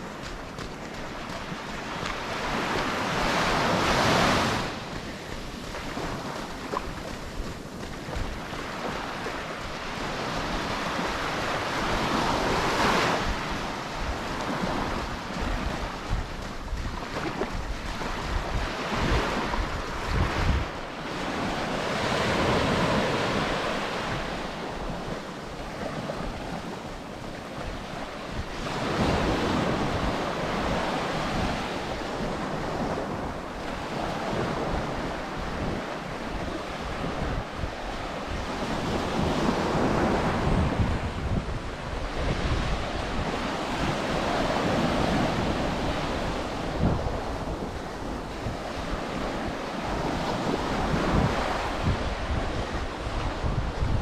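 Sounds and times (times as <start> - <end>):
ocean waves breaking on beach: 0.0 - 54.0
wind rumbling on microphone: 0.0 - 54.0.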